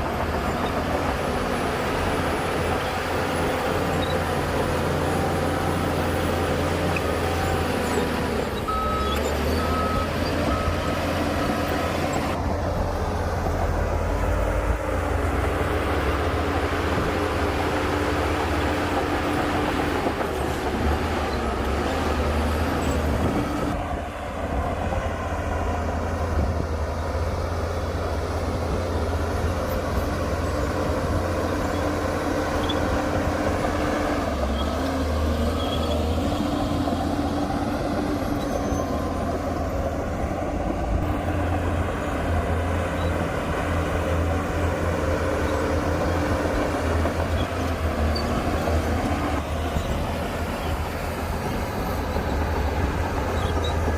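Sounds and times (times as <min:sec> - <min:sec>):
bulldozer diesel engine droning: 0:00.0 - 0:53.9.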